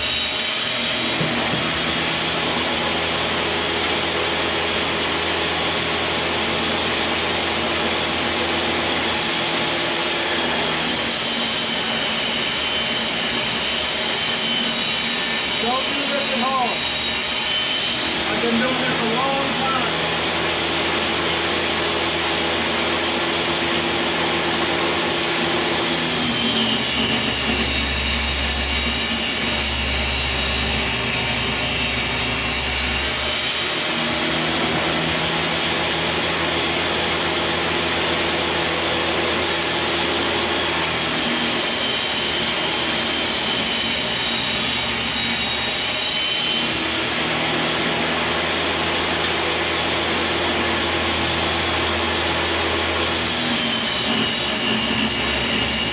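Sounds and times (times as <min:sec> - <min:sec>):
table saw ripping wood: 0:00.0 - 0:55.9.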